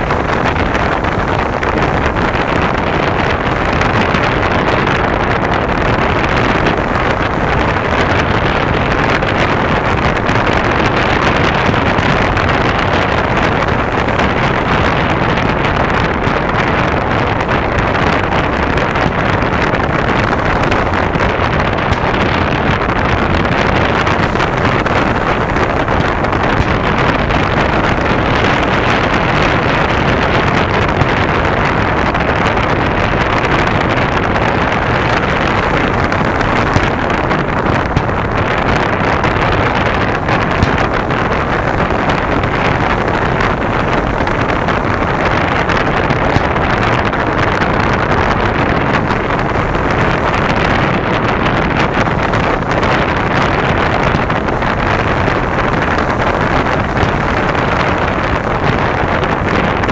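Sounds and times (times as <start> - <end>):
surf: 0.0 - 59.9
wind: 0.0 - 59.9.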